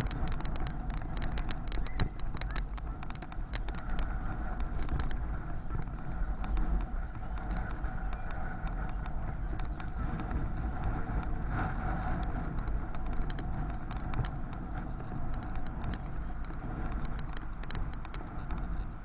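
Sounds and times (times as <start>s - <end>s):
light ticks and rattles: 0.0s - 19.0s
wind rumbling over microphone: 0.0s - 19.0s.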